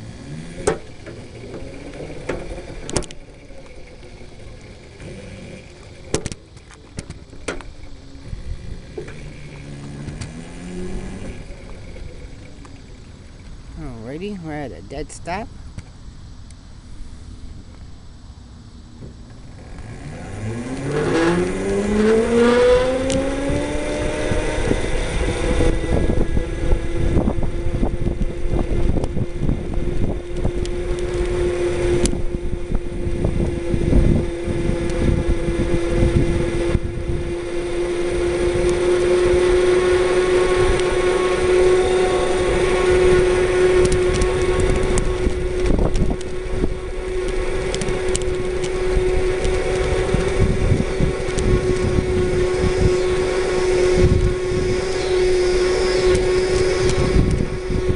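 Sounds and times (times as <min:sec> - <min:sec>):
small tyres rumbling on asphalt: 0:00.0 - 0:14.1, 0:15.5 - 0:57.9
electric motor whining: 0:00.0 - 0:15.8, 0:16.7 - 0:57.9.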